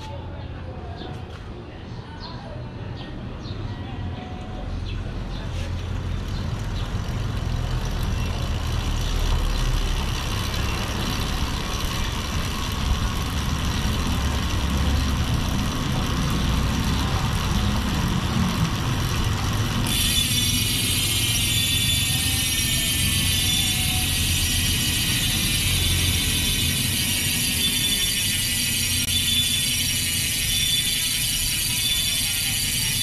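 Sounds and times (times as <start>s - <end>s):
bicycle chain whirring: 4.8s - 33.0s
freehub ratchet buzzing: 4.9s - 33.0s.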